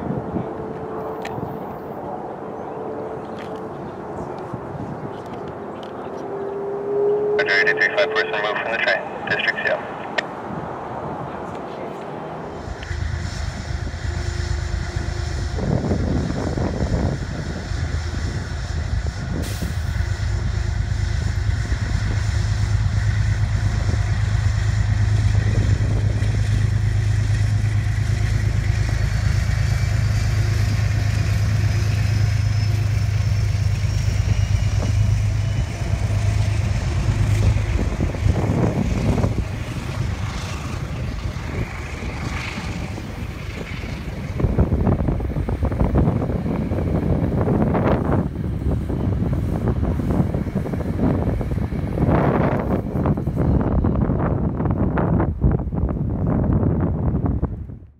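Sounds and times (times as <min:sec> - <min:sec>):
train coaches rolling by: 0:00.0 - 0:57.6
diesel locomotive engine drone: 0:00.0 - 0:57.9.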